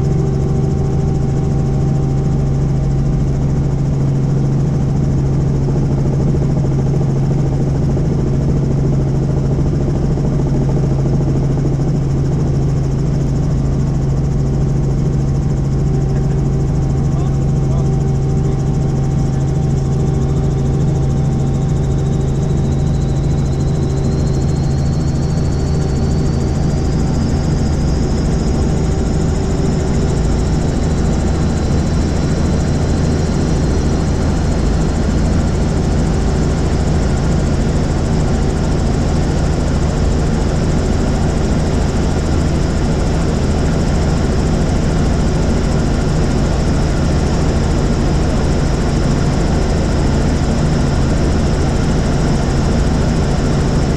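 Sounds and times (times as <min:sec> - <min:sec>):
helicopter engine and rotor noise: 0:00.0 - 0:53.9.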